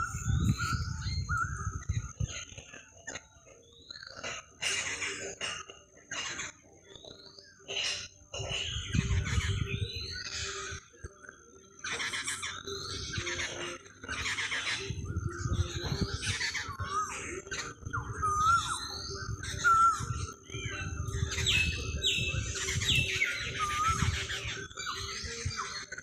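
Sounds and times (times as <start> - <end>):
bird chirps and squawks: 0.0 - 11.0, 11.8 - 26.0.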